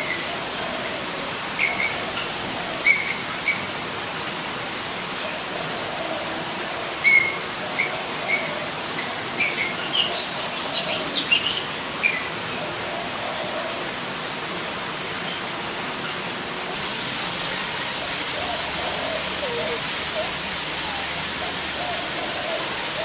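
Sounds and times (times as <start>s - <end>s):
outdoor ambience hiss: 0.0s - 23.0s.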